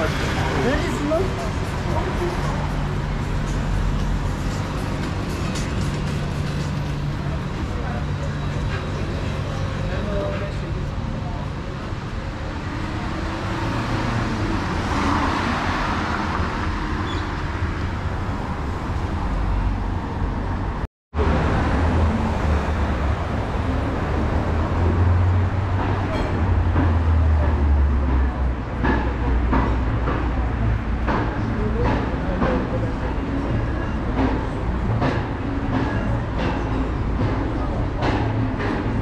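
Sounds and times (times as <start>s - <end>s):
traffic wash: 0.0s - 39.0s.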